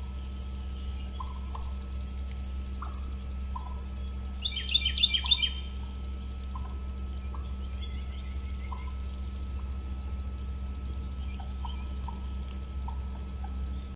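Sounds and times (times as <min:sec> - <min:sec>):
birds chirping: 0:00.0 - 0:13.9
low hum: 0:00.0 - 0:13.9.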